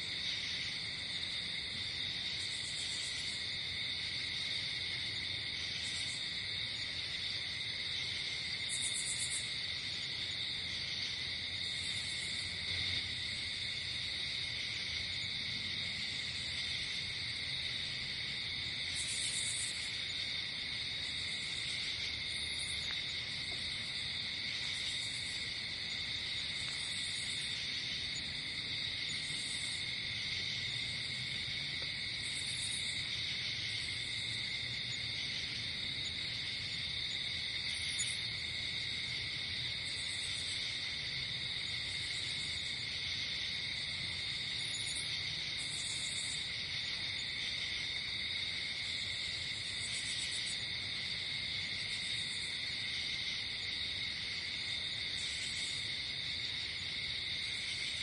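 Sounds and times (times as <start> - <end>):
crickets trilling: 0.0 - 58.0
buzzy insect trills: 8.2 - 58.0.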